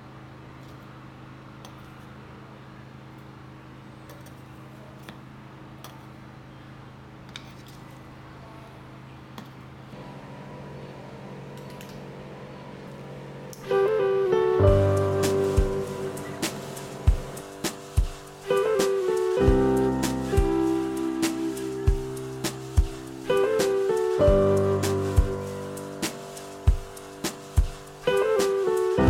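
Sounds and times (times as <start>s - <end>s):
refrigeration unit hum: 0.0s - 29.0s.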